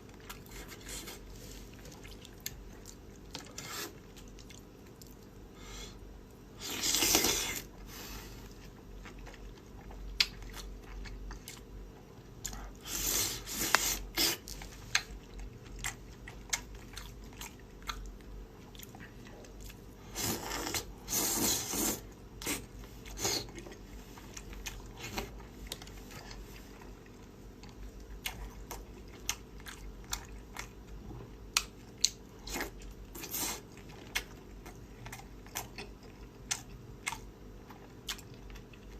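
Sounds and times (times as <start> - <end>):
person chewing crunchy food: 0.0 - 5.5, 6.2 - 38.9.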